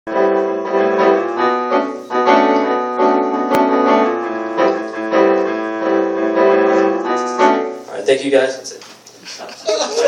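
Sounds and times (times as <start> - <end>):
piano sustained chords: 0.1 - 8.3.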